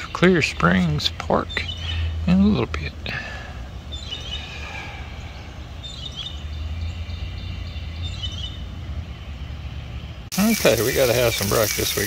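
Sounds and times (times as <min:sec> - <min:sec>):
steady low hum: 0:00.0 - 0:10.3
small birds chirping: 0:00.0 - 0:12.0.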